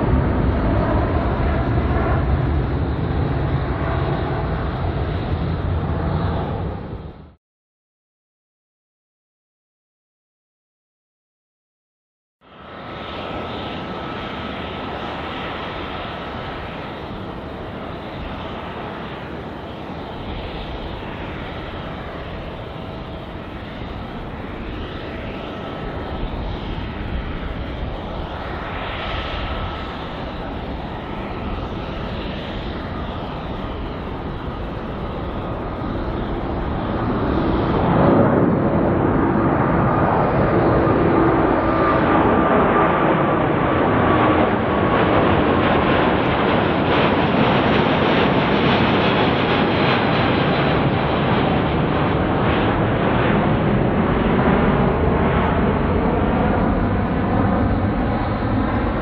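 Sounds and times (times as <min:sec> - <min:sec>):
jet engines at takeoff thrust: 0:00.0 - 0:07.4, 0:12.4 - 0:59.0.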